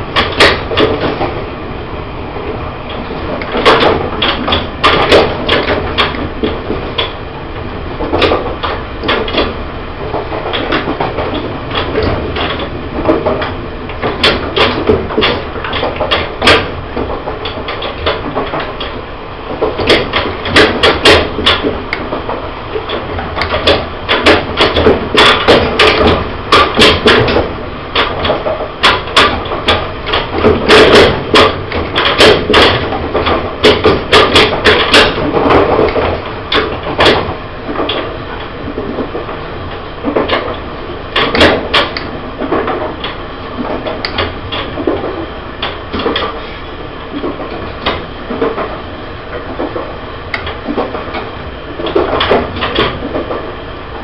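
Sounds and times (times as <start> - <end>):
train interior rumble: 0.0 - 54.0.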